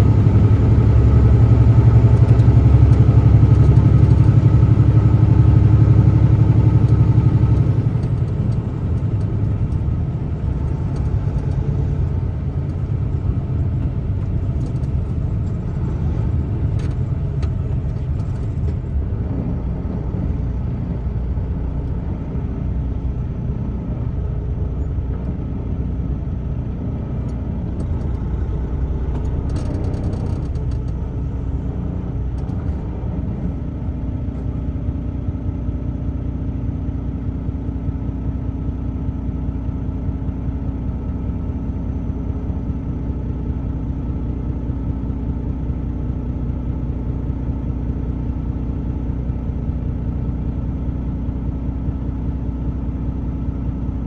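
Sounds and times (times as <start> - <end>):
road rumble: 0.0 - 54.0
truck engine drone: 0.0 - 54.0.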